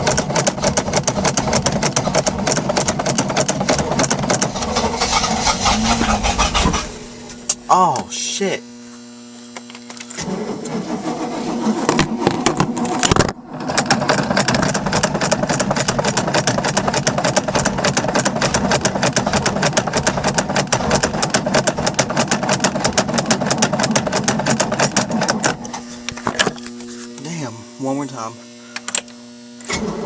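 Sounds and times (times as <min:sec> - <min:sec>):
starter motor cranking engine: 0:00.0 - 0:07.6, 0:10.0 - 0:26.6.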